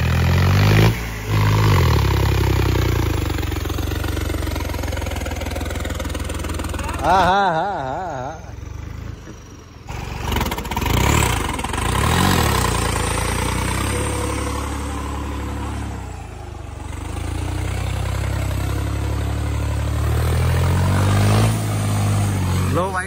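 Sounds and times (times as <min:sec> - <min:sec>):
tractor engine revving under load: 0:00.0 - 0:23.0.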